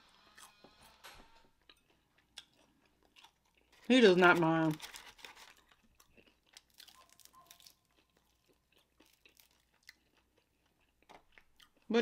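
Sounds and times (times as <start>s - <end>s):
chewing and crunching food: 0.2s - 12.0s.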